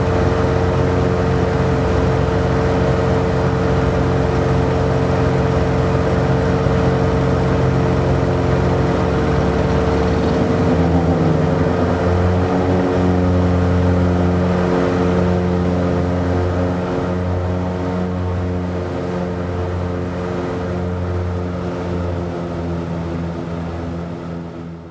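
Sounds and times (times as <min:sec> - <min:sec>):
propeller aircraft cabin drone: 0:00.0 - 0:24.9.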